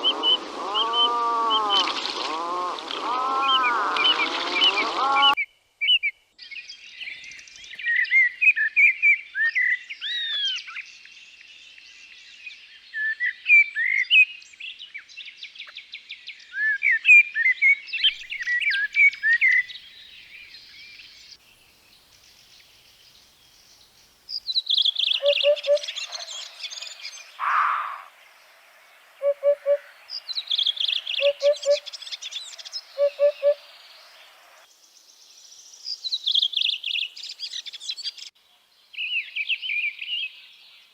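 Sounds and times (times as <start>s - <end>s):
birds singing and chirping: 0.0s - 28.1s, 29.1s - 34.7s.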